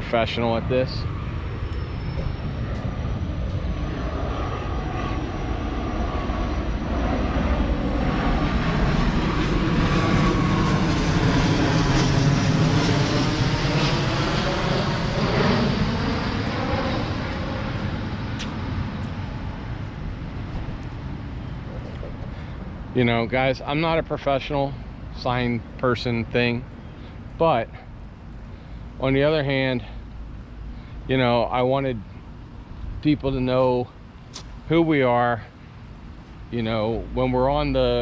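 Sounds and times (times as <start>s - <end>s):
propeller aircraft engine drone: 0.0s - 38.0s.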